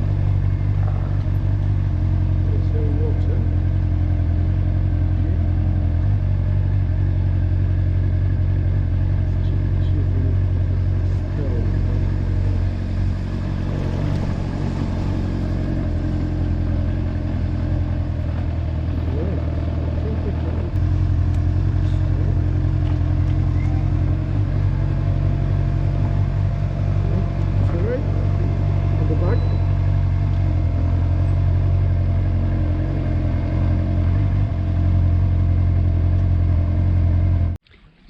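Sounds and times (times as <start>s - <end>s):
motorcycle engine running: 0.0s - 37.6s.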